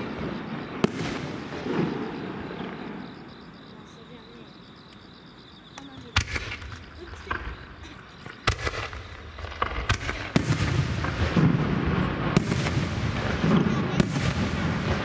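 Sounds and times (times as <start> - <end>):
fireworks crackle: 0.0 - 4.0, 5.8 - 15.0
fireworks bursting: 0.0 - 4.2, 5.8 - 15.0.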